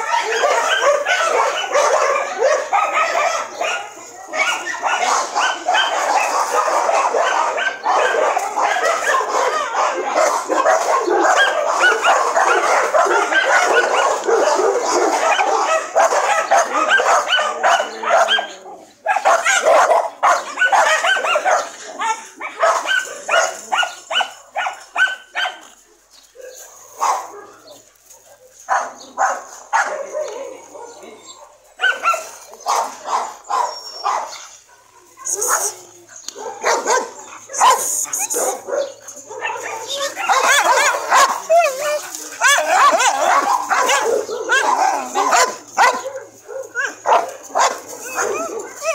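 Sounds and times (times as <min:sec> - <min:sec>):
dogs barking: 0:00.0 - 0:48.9.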